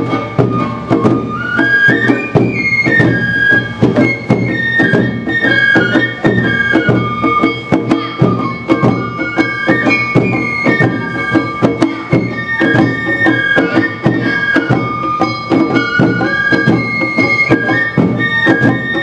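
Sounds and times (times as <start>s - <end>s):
drums: 0.0s - 19.0s
flute melody: 0.0s - 19.0s.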